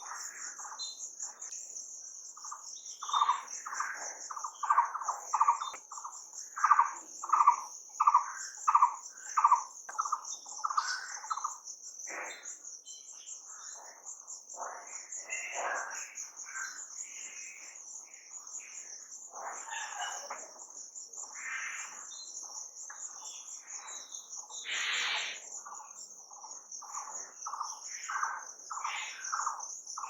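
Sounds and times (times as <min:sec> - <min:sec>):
crickets trilling: 0:00.0 - 0:30.0
birds calling: 0:02.4 - 0:30.0.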